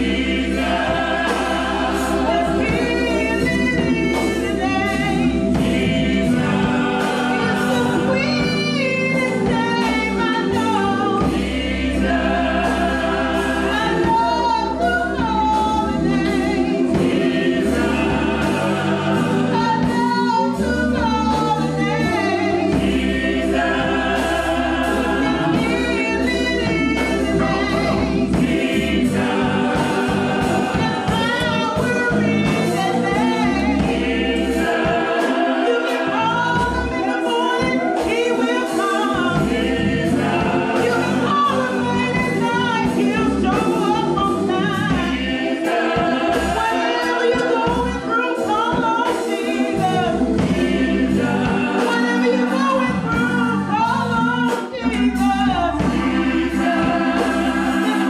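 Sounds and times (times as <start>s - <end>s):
choir singing gospel: 0.0s - 58.0s.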